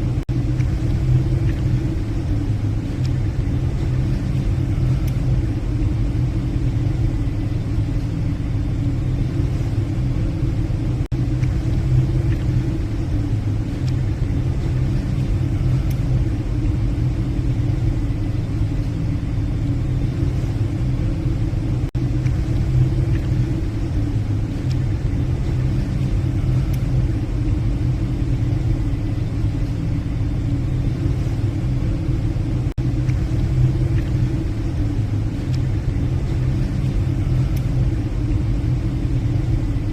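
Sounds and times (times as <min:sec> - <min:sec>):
ship engines droning: 0:00.0 - 0:39.9.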